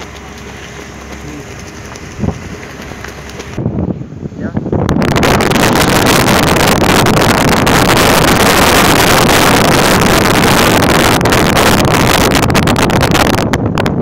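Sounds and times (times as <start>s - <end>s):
boat engine running: 0.0s - 3.6s, 5.0s - 14.0s
wind buffeting microphone: 0.0s - 14.0s.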